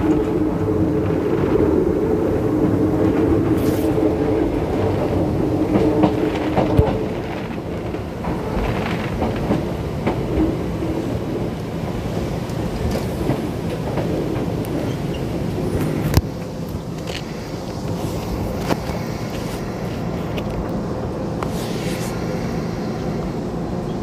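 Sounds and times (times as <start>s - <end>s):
wheels clicking over rail joints: 0.0s - 20.8s
train rumbling: 0.0s - 24.0s.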